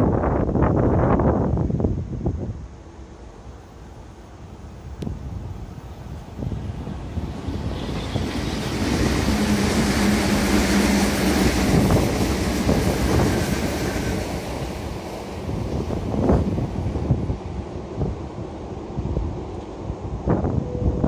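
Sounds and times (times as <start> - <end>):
electric train passing: 2.7 - 21.0.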